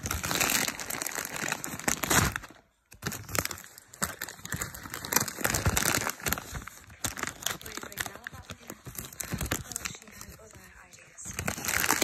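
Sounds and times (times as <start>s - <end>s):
crisp packet crinkling: 0.0s - 12.0s.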